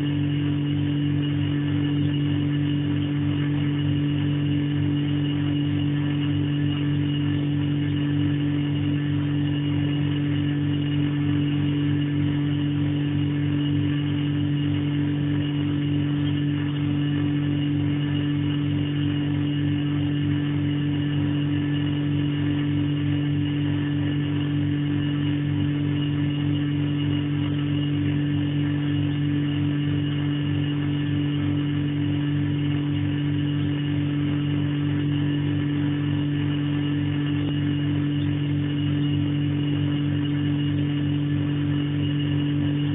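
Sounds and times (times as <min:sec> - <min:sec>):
refrigerator compressor humming: 0:00.0 - 0:42.9.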